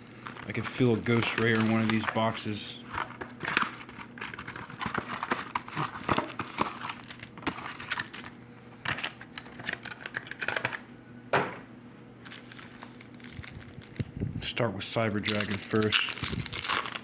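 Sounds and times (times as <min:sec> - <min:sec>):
packaging crinkling and tearing: 0:00.0 - 0:10.8, 0:12.2 - 0:14.1, 0:15.0 - 0:17.0.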